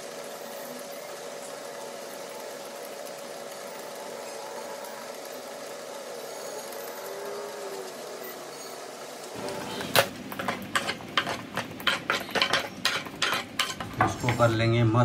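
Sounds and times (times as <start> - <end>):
small motor humming: 0.0 - 12.8.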